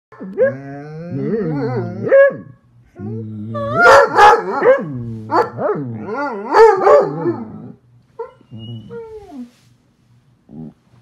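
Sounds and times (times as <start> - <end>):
hound howling and baying: 0.2 - 9.4.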